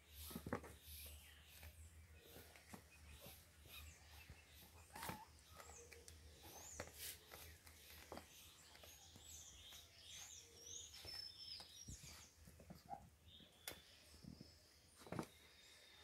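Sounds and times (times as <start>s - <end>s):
kittens scuffling on rug: 0.2s - 13.4s.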